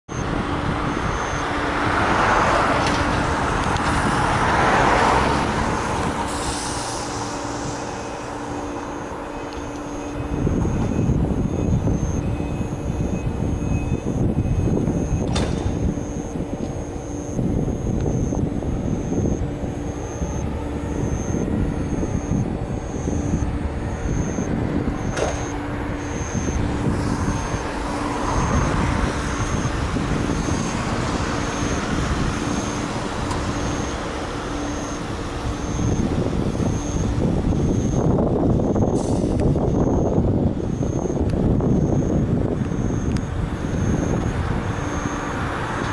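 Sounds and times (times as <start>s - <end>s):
high beeps: 0.1s - 1.5s, 7.2s - 32.9s, 33.5s - 34.0s, 34.6s - 45.4s
streetcar rumbling over rails: 0.1s - 45.9s.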